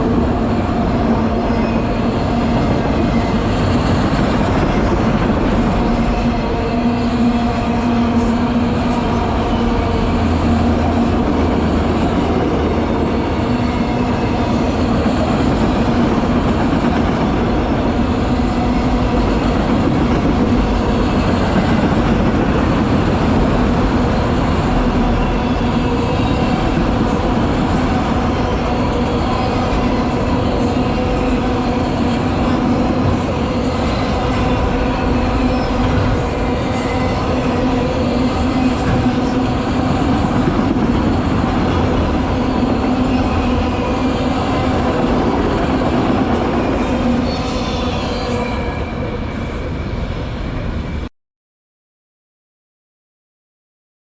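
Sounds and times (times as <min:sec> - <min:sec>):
freight train wheels rumbling: 0:00.0 - 0:51.1.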